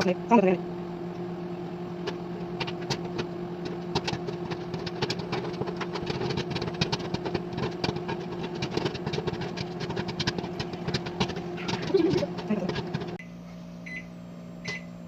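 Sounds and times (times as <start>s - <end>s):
microwave oven humming: 0.0s - 15.0s
popcorn popping: 1.1s - 13.2s.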